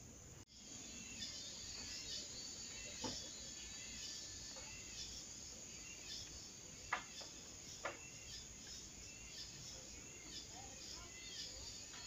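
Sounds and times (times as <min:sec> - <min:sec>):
high-pitched insect chirping: 0:00.5 - 0:12.0.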